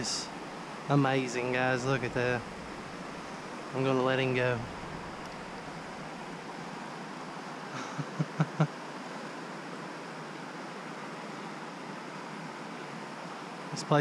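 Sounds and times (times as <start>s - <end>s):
creek water flowing: 0.0s - 14.0s.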